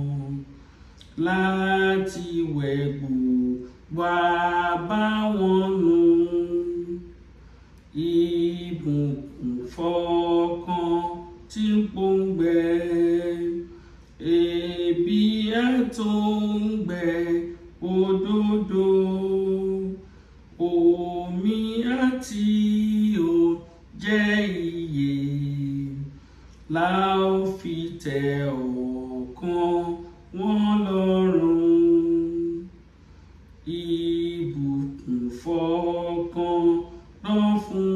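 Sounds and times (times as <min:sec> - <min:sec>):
woman singing a hymn: 0:01.2 - 0:07.1, 0:08.0 - 0:20.0, 0:20.6 - 0:26.1, 0:26.7 - 0:32.7, 0:33.7 - 0:37.9.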